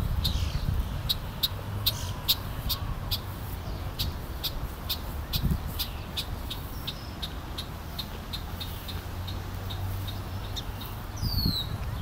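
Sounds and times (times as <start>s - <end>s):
wind rumble on microphone: 0.0s - 7.3s, 9.3s - 12.0s.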